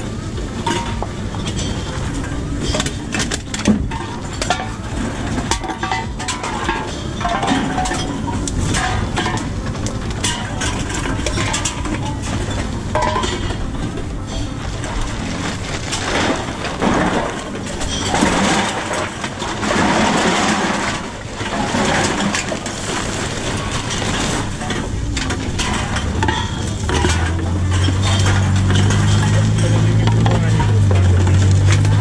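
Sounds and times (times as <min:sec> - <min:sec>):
cans and bottles clattering: 0:00.0 - 0:32.0
low steady hum: 0:00.0 - 0:32.0.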